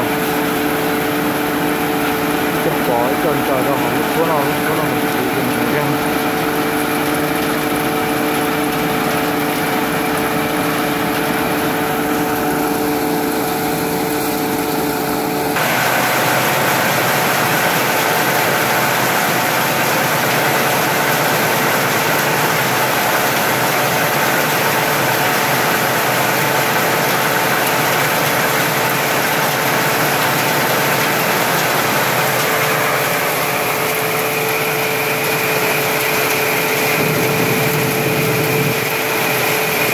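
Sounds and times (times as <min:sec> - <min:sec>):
threshing machine running: 0:00.0 - 0:39.9.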